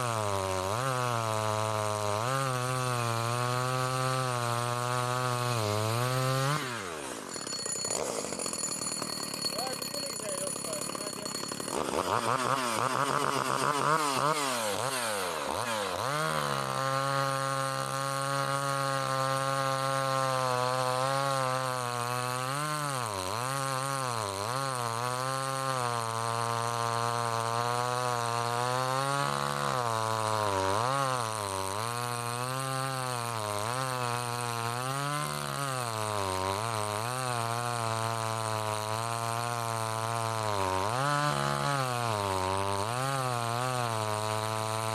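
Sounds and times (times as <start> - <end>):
chainsaw running: 0.0 - 44.9.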